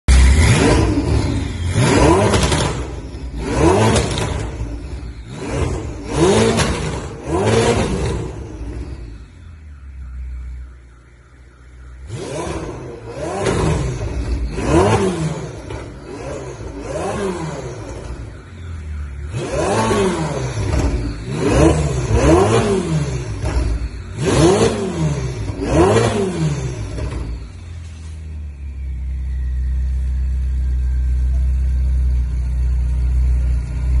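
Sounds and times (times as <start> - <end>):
car engine low rumble: 0.1 - 34.0
car engine revving: 0.1 - 34.0.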